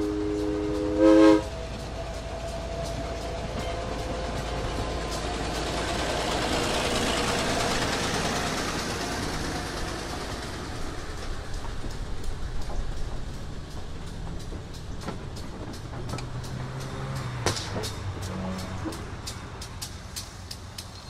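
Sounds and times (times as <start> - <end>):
diesel locomotive passing: 0.0 - 21.0
wheels clicking over rail joints: 0.0 - 21.0.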